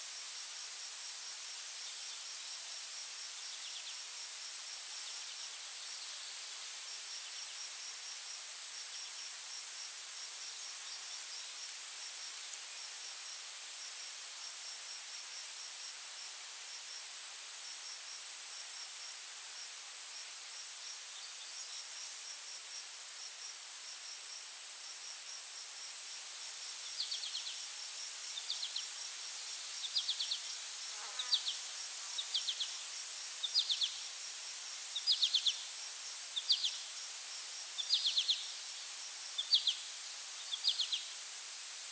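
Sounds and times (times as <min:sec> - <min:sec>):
high insect drone: 0:00.1 - 0:41.9
cricket-like chirping: 0:01.6 - 0:41.4.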